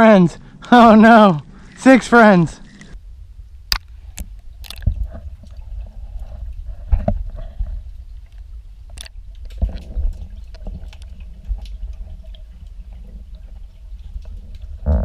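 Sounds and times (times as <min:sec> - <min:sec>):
steady low rumble: 0:02.5 - 0:15.0.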